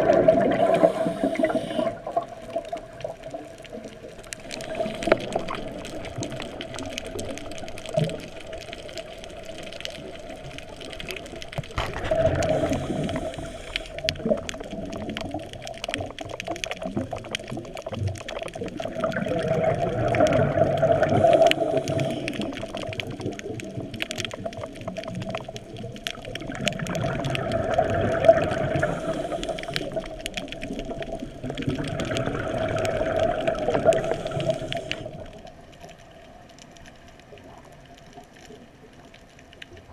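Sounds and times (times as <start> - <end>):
underwater exhaled bubbles rushing: 0.0 - 39.9.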